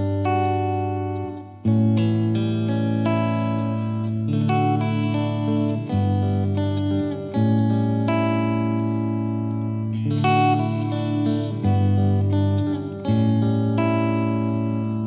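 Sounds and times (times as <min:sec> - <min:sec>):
plucked guitar: 0:00.0 - 0:15.0.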